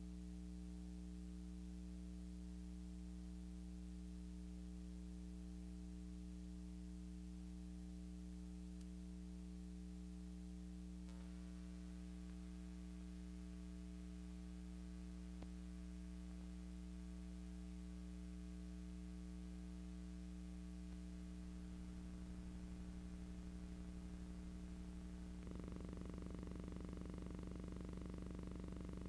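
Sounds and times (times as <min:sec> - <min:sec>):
electrical mains hum with hiss: 0:00.0 - 0:29.0.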